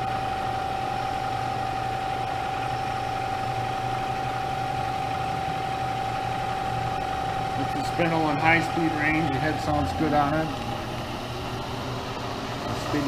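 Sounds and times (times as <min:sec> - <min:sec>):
milling machine spindle whine: 0:00.0 - 0:13.0.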